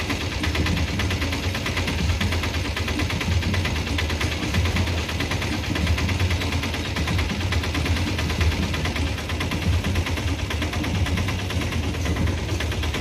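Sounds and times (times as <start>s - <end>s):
continuous low rumble: 0.0s - 13.0s
train wheels clattering over rails: 0.0s - 13.0s.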